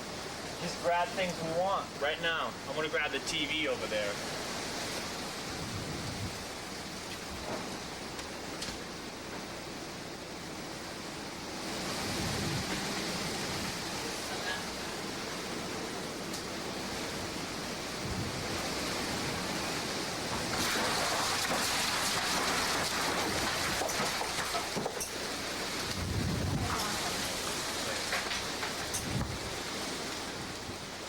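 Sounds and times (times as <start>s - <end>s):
wind and driving rain: 0.0s - 31.0s.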